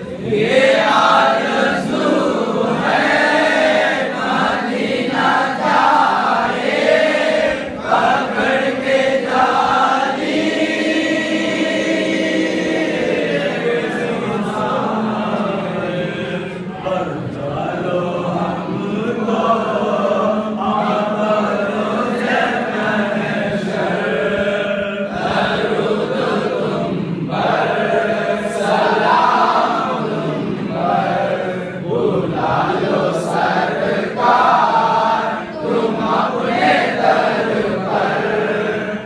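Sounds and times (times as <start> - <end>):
man chanting into a microphone: 0.0 - 39.0.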